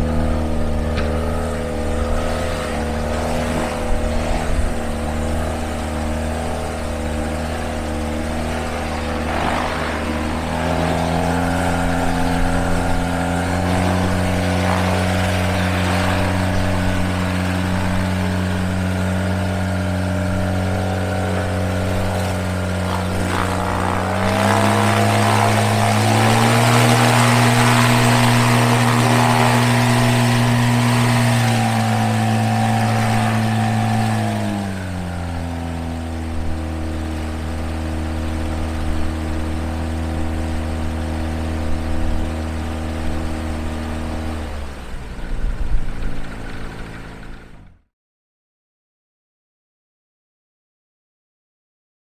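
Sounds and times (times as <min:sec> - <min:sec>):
propeller aircraft engine running: 0:00.0 - 0:47.9.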